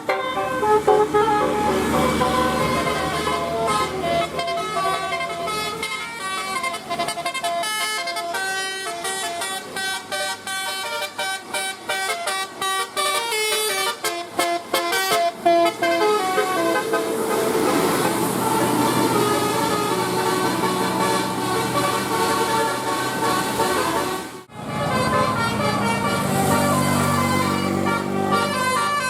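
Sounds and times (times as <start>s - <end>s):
multi-tone bus horn playing a tune: 0.0s - 29.0s.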